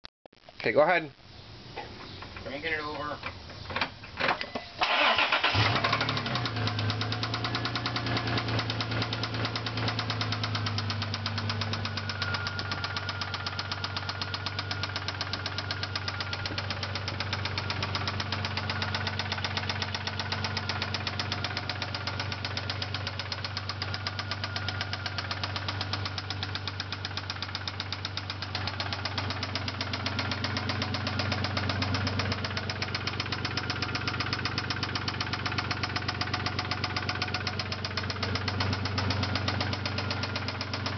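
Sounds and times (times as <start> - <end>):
car engine starting and idling: 4.8 - 40.9
fast regular engine knock: 6.0 - 40.9.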